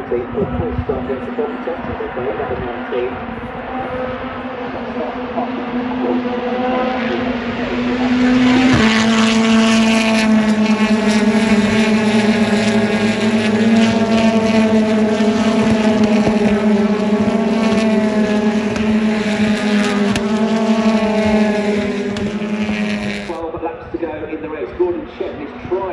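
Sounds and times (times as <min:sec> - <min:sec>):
racing car engines at high revs: 0:00.0 - 0:23.4.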